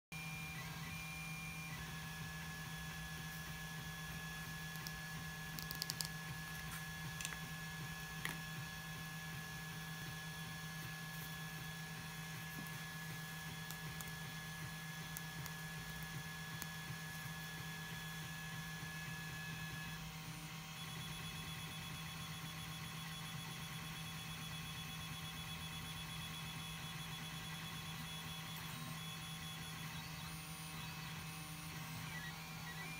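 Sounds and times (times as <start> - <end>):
electrical hum with high whines: 0.2 - 32.9.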